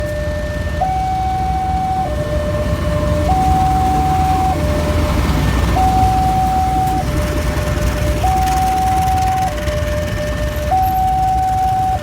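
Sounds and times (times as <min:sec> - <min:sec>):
two-tone warning siren: 0:00.0 - 0:12.0.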